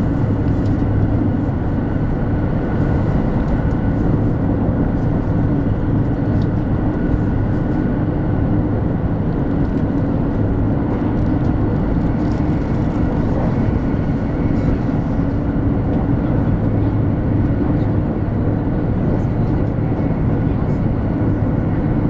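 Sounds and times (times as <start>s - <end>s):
constant low hum: 0.0s - 22.0s
train rumbling on rails: 0.0s - 22.0s.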